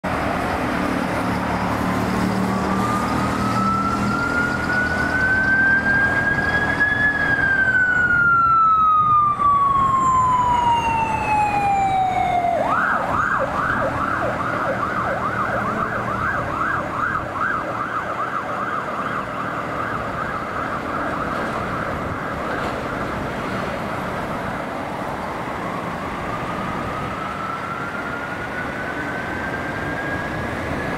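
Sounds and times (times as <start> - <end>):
ambulance siren wailing and yelping: 1.1 - 23.6, 24.2 - 30.9.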